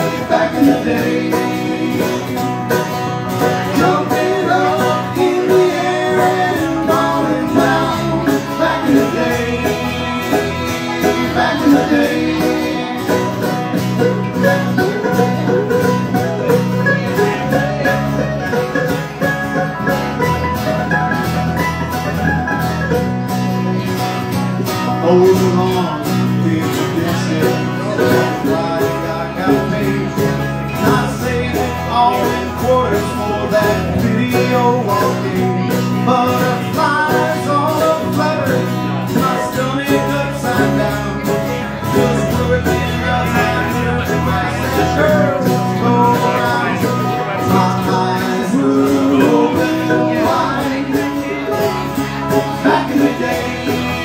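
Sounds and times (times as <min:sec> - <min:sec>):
bluegrass band playing: 0:00.0 - 0:54.0.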